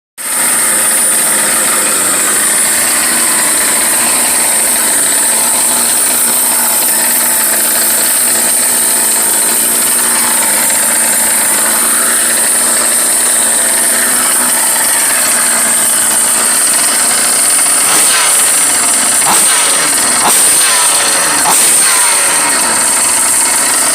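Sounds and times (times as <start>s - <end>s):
high-pitched whine: 0.2s - 23.9s
small two-stroke engines running: 0.2s - 23.9s.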